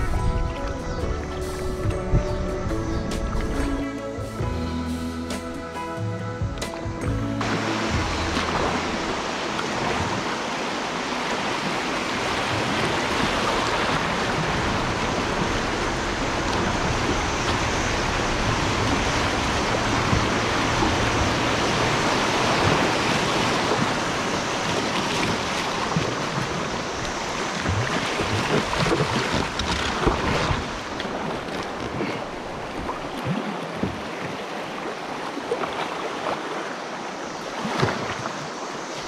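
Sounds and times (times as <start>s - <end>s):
river water rushing and splashing: 0.0s - 39.0s.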